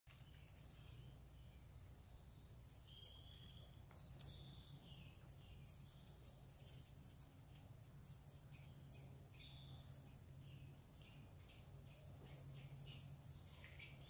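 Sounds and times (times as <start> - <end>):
high bird chirps: 0.1 - 14.0
low steady rumble: 0.1 - 14.0
birdsong whistled notes: 0.2 - 6.6, 8.4 - 14.0.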